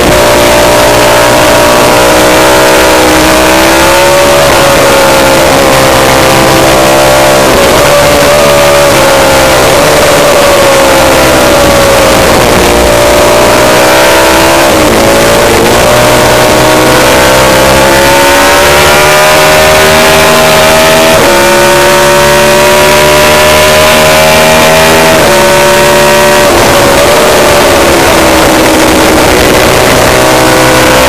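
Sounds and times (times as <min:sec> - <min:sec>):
motorcycle engine accelerating hard: 0:00.0 - 0:31.0.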